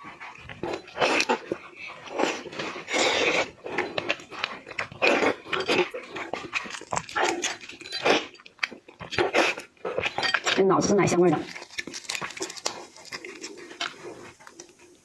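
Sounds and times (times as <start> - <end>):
person slurping and chewing: 0.0 - 10.6, 11.4 - 15.0.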